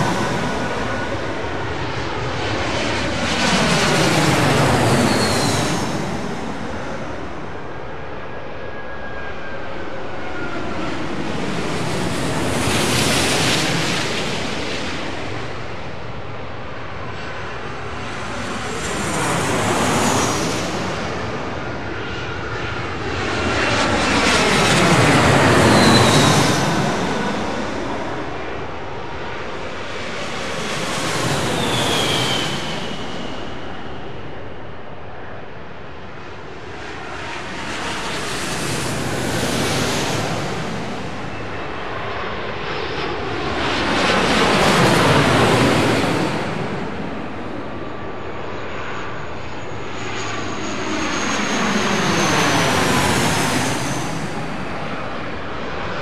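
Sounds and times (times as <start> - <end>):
airliners passing overhead: 0.0 - 56.0.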